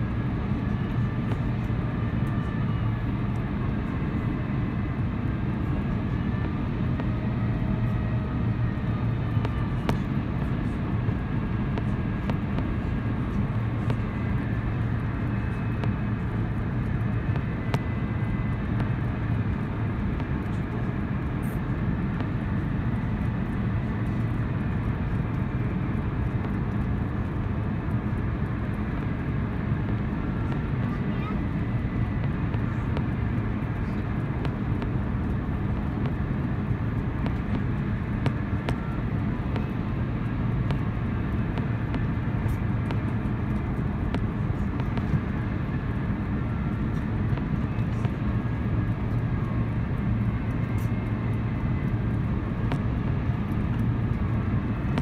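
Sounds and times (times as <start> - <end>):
airplane cabin engine rumble: 0.0 - 55.0
low hum: 0.0 - 55.0.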